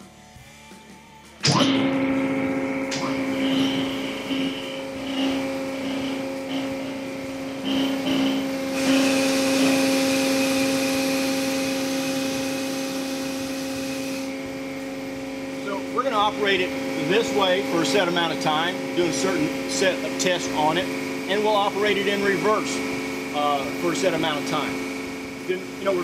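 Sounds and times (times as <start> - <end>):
hydraulic motor whine: 1.4 - 26.0.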